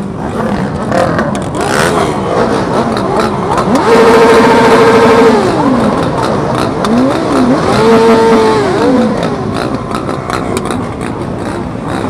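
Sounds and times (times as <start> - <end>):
motorcycle engine revving: 0.0 - 12.0
other engines running: 0.0 - 12.0.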